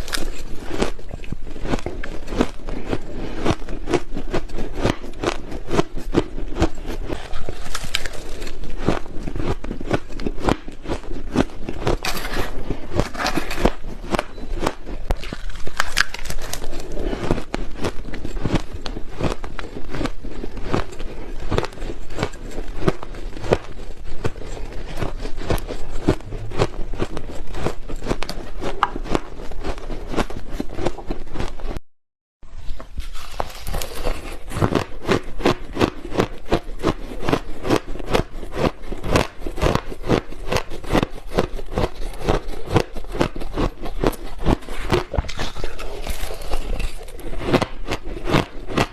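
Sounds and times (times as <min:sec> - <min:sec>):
chewing crunchy ice: 0:00.0 - 0:31.8, 0:33.0 - 0:48.9.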